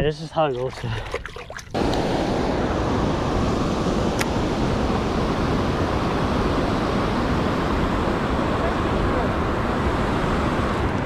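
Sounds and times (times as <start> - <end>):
wind on microphone: 1.7 - 11.0.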